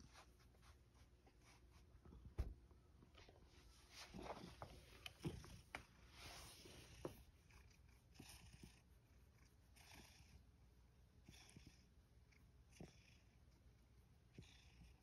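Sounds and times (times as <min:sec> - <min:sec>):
hand stroking cat fur: 0:00.0 - 0:02.5, 0:03.7 - 0:15.0.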